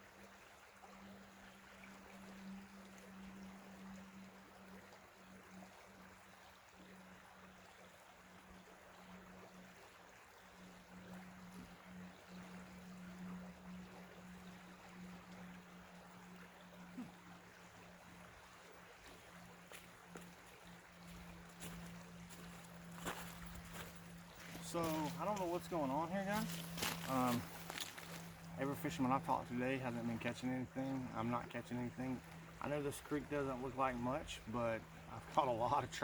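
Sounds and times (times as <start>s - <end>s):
creek flowing: 0.0s - 36.0s
low hum: 0.2s - 36.0s.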